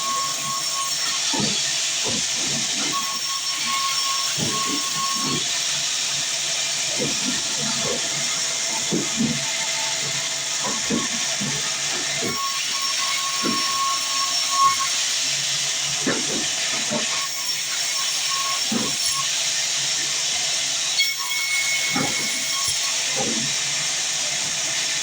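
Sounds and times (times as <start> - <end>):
band saw cutting log: 0.0 - 25.0.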